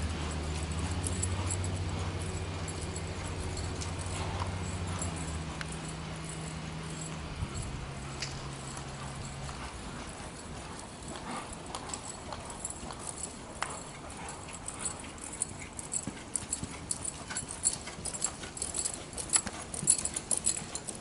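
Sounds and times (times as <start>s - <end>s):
horse hoofbeats on soft dirt: 0.0s - 21.0s
steady low hum: 0.0s - 21.0s.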